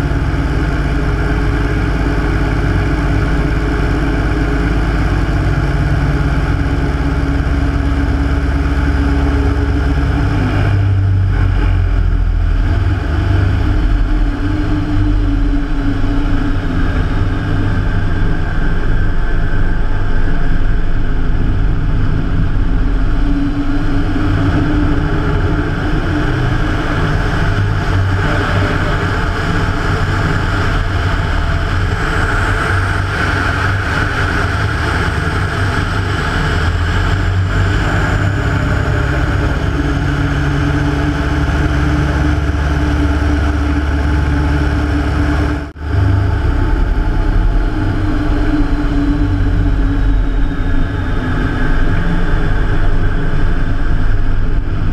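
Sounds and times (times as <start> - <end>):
propeller and wind noise: 0.0 - 54.9
radial aircraft engine running: 0.0 - 54.9.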